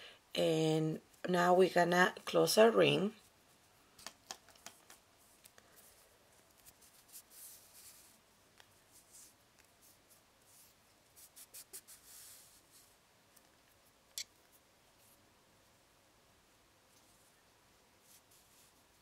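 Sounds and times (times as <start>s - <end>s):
faint rustling of thread: 2.9s - 15.9s, 16.7s - 19.0s.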